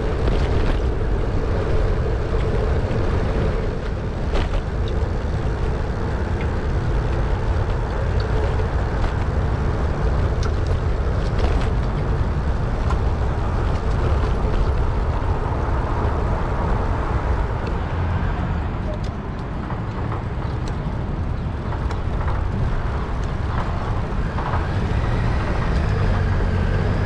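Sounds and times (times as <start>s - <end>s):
motor traffic: 0.0s - 27.0s
wind rumble on microphone: 0.0s - 27.0s.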